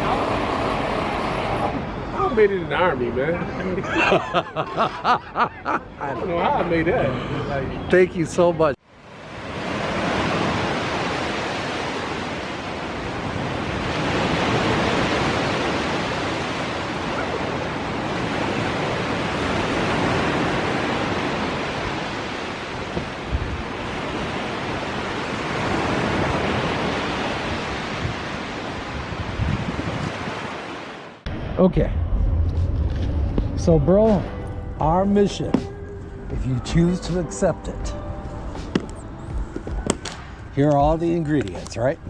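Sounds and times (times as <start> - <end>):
steady outdoor rushing noise: 0.0 - 42.0.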